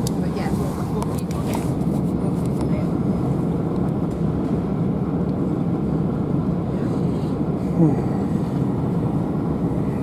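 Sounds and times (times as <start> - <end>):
train interior running rumble: 0.0 - 10.0.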